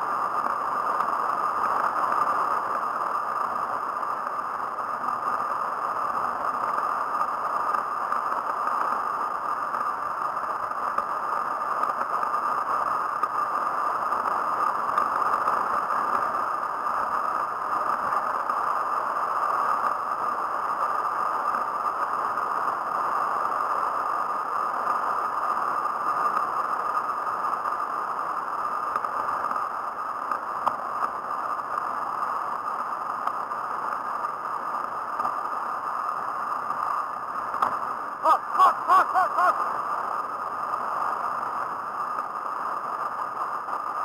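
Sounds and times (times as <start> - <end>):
handbike whirring on asphalt: 0.0 - 38.2, 39.7 - 44.0.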